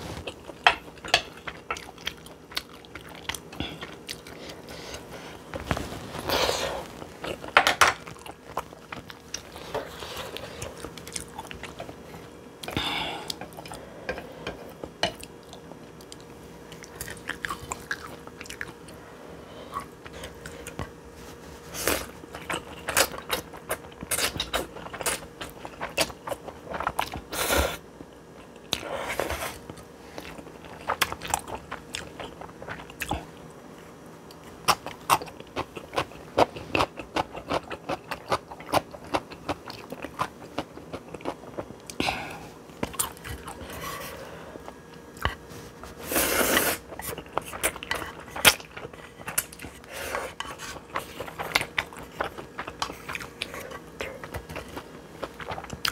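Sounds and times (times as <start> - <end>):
person chewing noodles: 0.0 - 21.0, 21.7 - 27.8, 28.4 - 33.5, 34.3 - 55.9.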